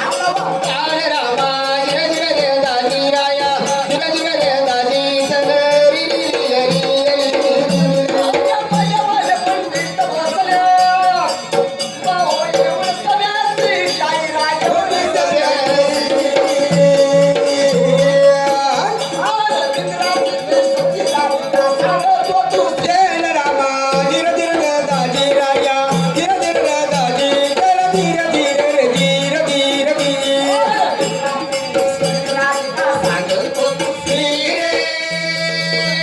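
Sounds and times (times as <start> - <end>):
hand-drum beats: 0.0 - 36.0
rattling percussion: 0.0 - 36.0.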